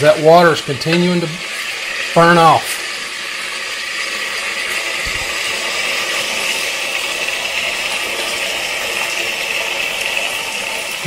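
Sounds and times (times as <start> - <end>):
green beans sizzling in pan: 0.0 - 11.0.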